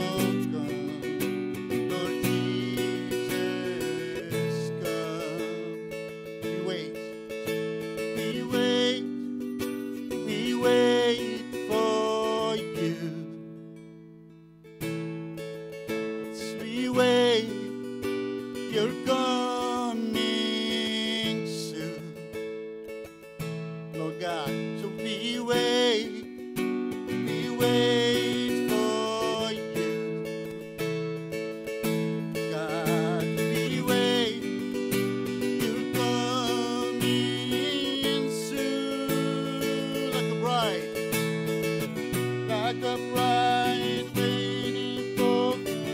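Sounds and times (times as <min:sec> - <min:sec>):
man singing slow song: 0:00.0 - 0:13.5, 0:16.3 - 0:17.9, 0:18.5 - 0:22.3, 0:23.9 - 0:30.1, 0:32.1 - 0:45.9
acoustic guitar strumming: 0:00.0 - 0:45.9.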